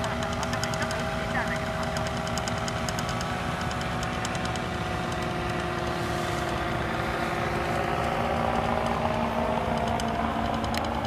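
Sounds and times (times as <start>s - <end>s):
paramotor engine idling: 0.0s - 11.0s.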